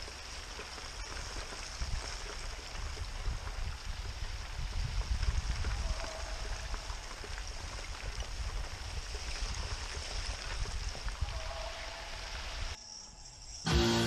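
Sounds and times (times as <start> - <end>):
water lapping over rocks: 0.0 - 11.6.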